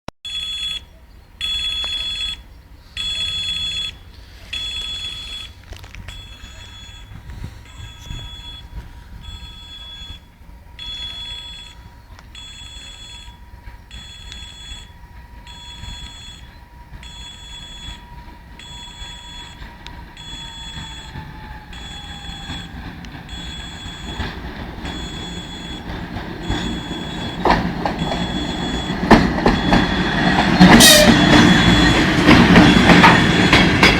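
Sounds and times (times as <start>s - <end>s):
approaching train: 0.3s - 33.9s
railway warning signal ringing: 0.3s - 33.9s.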